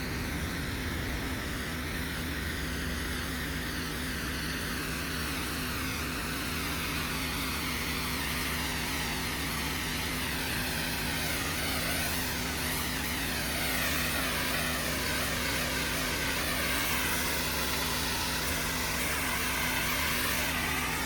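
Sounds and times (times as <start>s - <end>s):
pressure washer engine drone: 0.0s - 21.0s
water spraying on concrete: 0.0s - 21.0s.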